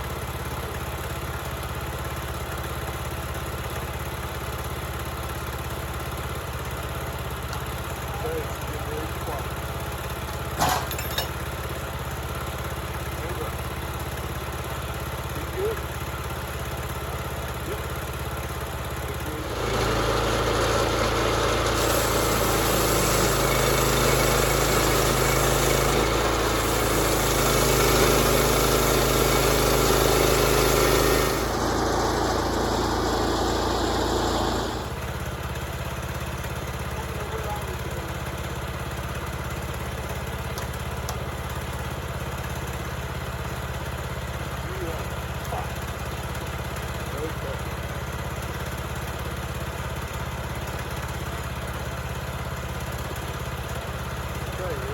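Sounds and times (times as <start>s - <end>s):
engine running: 5.2s - 54.9s.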